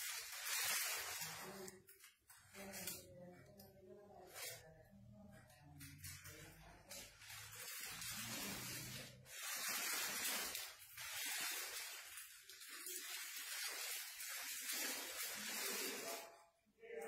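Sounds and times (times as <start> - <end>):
plastic kit rustling: 0.0 - 4.6, 6.1 - 16.3.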